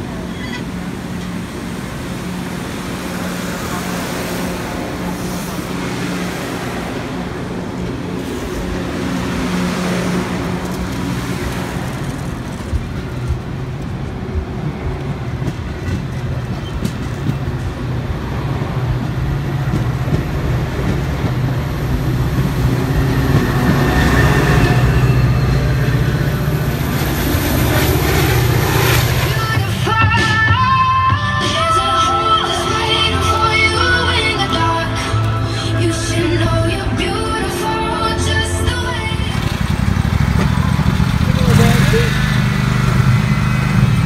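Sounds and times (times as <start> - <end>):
diesel locomotive engine hum: 0.0 - 44.0
train cars rolling past: 0.0 - 44.0.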